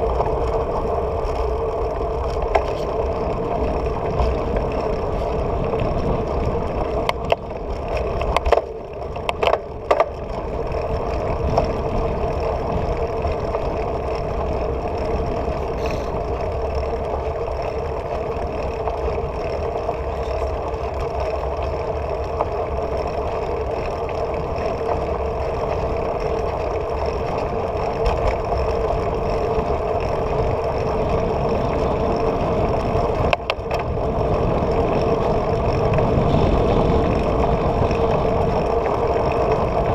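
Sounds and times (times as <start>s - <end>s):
bicycle tyre and wind rumble: 0.0s - 39.9s.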